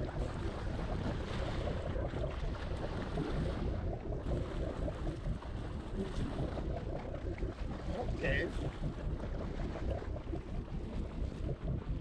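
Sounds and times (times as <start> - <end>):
water splashing against hull: 0.0 - 12.0
wind buffeting microphone: 0.0 - 12.0.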